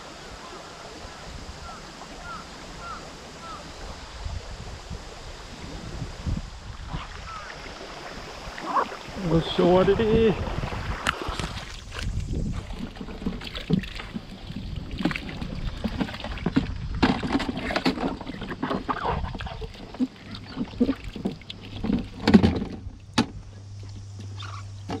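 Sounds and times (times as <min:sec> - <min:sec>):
river water sloshing and splashing: 0:00.0 - 0:25.0.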